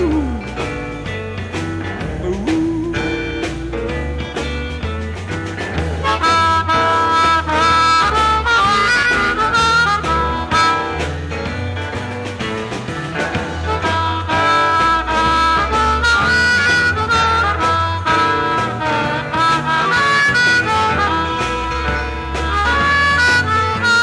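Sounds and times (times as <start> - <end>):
blues harmonica: 0.0 - 24.0
rock band playing: 0.0 - 24.0.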